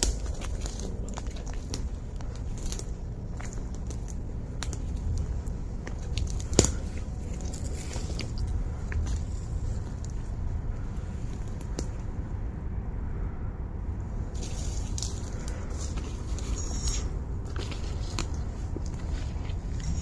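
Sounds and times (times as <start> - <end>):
footsteps crunching over twigs: 0.0 - 12.1, 14.4 - 20.0
low rumble: 0.0 - 20.0.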